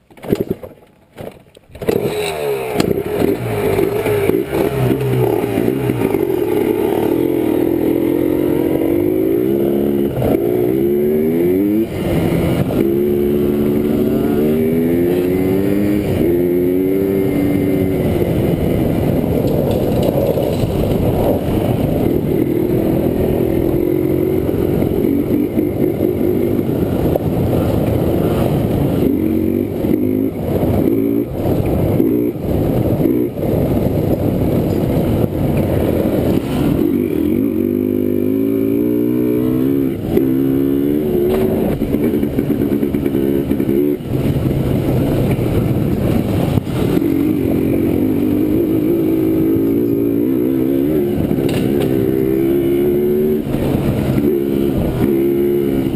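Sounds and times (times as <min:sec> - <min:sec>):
quad bike engine revving: 0:01.7 - 0:55.9.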